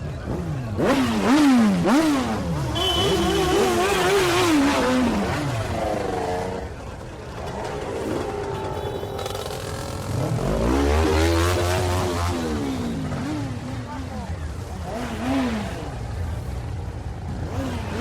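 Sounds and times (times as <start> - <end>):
motorcycle engine accelerating: 0.1 - 18.0.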